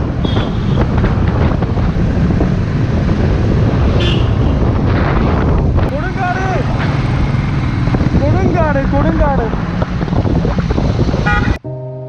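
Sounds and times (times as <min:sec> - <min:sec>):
wind buffeting microphone: 0:00.0 - 0:11.6
motorcycle engine running: 0:00.2 - 0:11.5.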